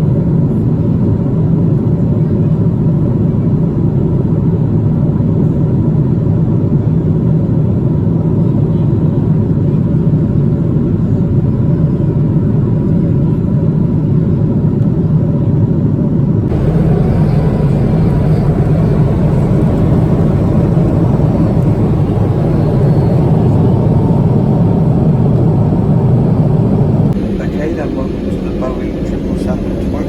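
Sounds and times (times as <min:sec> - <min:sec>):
jet engines rumbling in cabin: 0:00.0 - 0:30.0.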